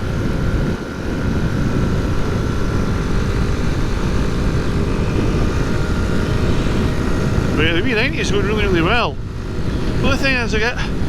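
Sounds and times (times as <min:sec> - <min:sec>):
small motorcycle engine cruising: 0:00.0 - 0:11.0
wind rush on microphone: 0:00.0 - 0:11.0.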